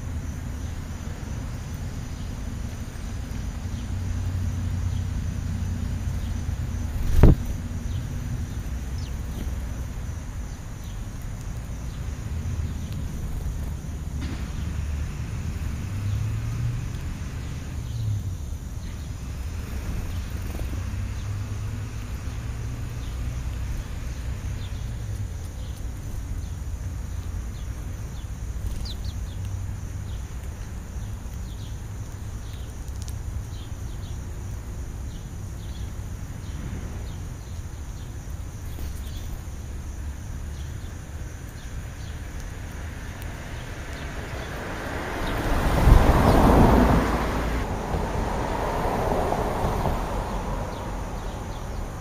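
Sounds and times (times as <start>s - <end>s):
sparrows chirping: 0.0s - 46.6s, 49.8s - 52.0s.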